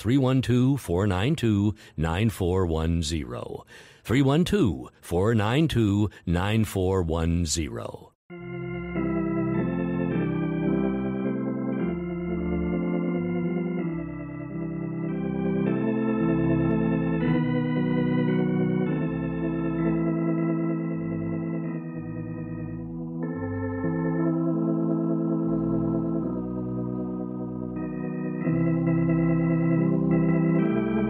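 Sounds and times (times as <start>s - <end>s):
organ chords: 0.0s - 31.0s.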